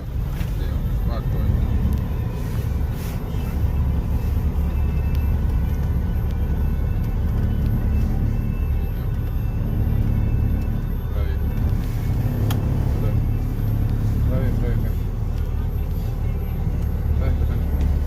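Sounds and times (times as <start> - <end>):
engine and drivetrain rumble: 0.0 - 18.0
road noise: 0.0 - 18.0.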